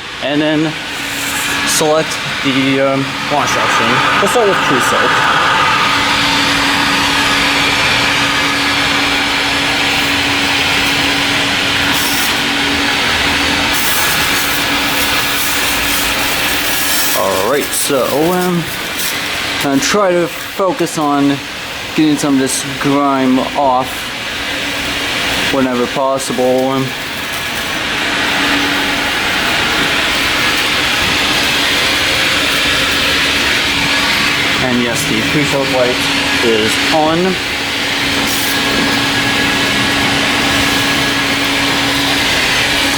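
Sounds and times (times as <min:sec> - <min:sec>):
pressure washer pump and spray: 0:00.0 - 0:20.6, 0:24.2 - 0:42.9.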